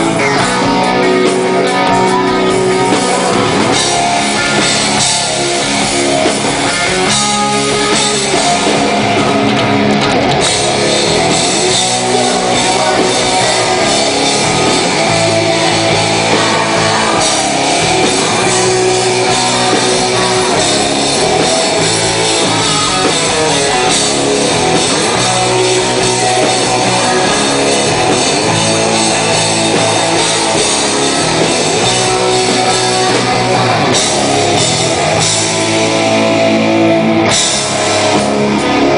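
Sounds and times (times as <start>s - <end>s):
drum kit: 0.0s - 38.9s
electric guitars: 0.0s - 38.9s.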